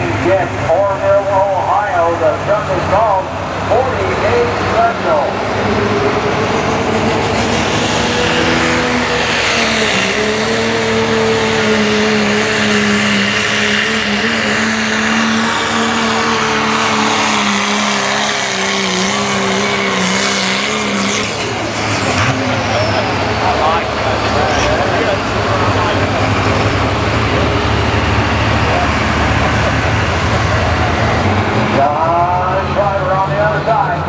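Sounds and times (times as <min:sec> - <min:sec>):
diesel truck engine under load: 0:00.0 - 0:34.0.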